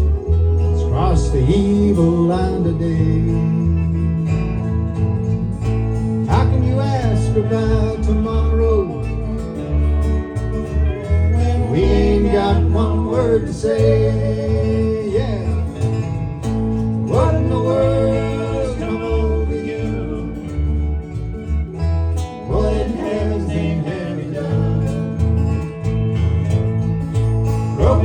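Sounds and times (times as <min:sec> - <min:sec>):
lap steel guitar lead: 0:00.0 - 0:28.0
steady bass line: 0:00.0 - 0:28.0
strummed guitar: 0:00.0 - 0:28.0.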